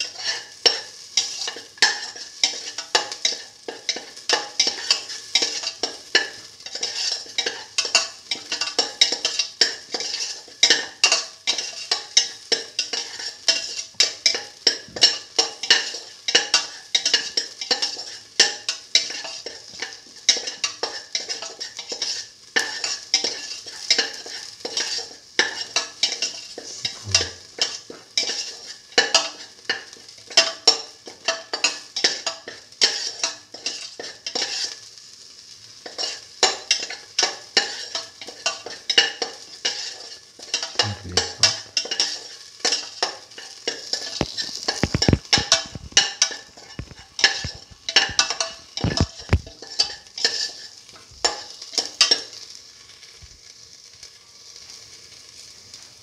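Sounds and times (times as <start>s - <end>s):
metal spatula scraping a pan: 0.0s - 34.8s, 35.4s - 53.0s
shallots sizzling in oil: 0.0s - 56.0s.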